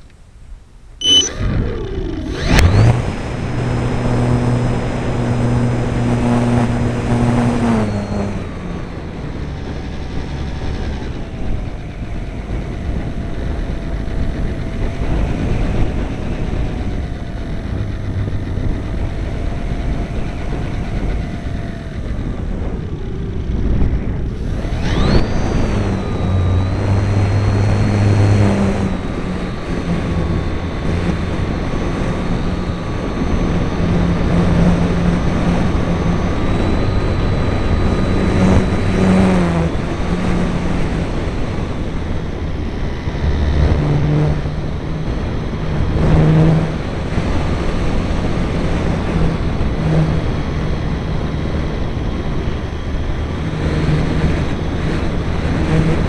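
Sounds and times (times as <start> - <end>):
model airplane motor and propeller: 1.0 - 56.0.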